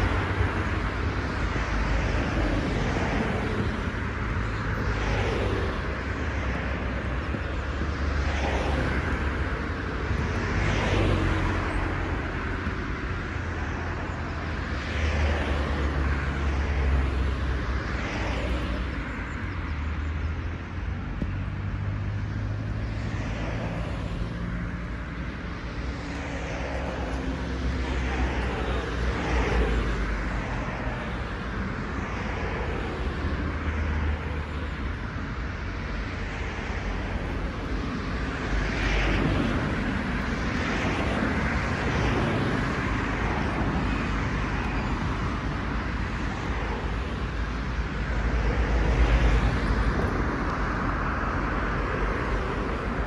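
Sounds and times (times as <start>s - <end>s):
low traffic rumble: 0.0s - 53.0s
vehicles passing: 0.0s - 53.0s.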